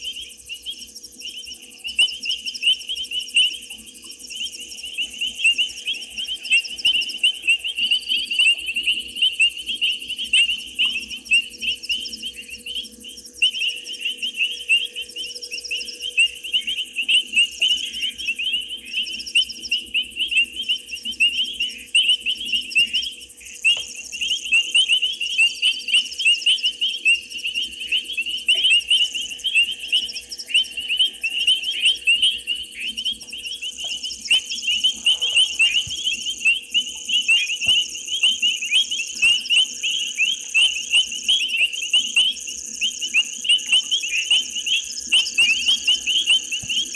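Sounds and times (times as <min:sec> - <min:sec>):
frogs calling: 0:00.0 - 0:46.9
insects trilling: 0:00.0 - 0:46.9.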